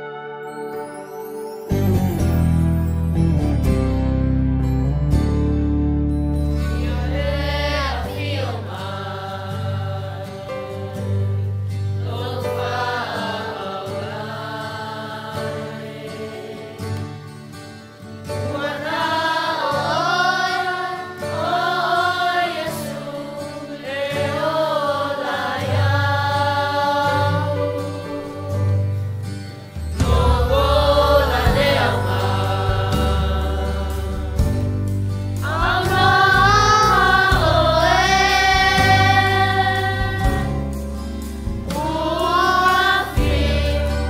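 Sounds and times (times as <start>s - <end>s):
choir singing a hymn: 6.6s - 44.0s.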